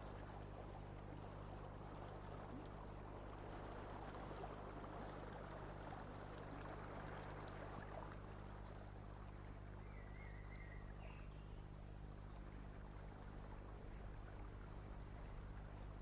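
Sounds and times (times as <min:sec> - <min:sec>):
faint river water: 0:00.0 - 0:16.0
low hum: 0:00.0 - 0:16.0.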